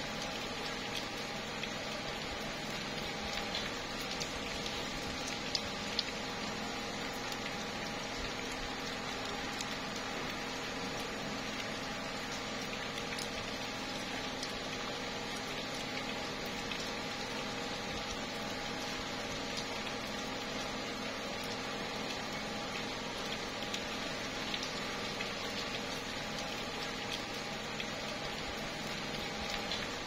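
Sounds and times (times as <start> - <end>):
rain pattering on leaves: 0.0 - 30.0.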